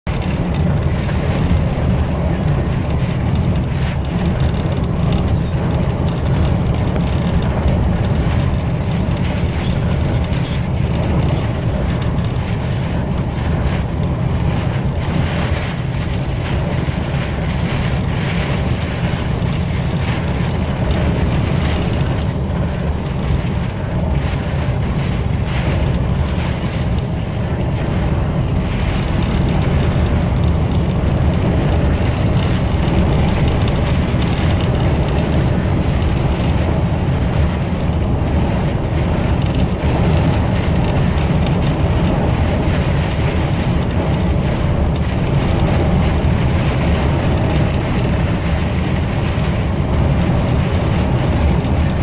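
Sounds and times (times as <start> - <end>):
wind noise: 0.0 - 52.0
car driving rumble and hiss: 0.1 - 52.0.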